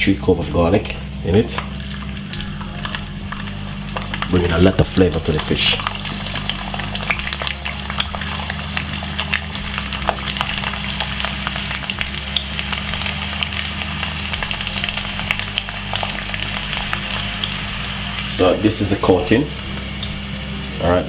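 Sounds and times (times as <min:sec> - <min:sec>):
garlic sizzling in hot oil: 0:00.6 - 0:21.0.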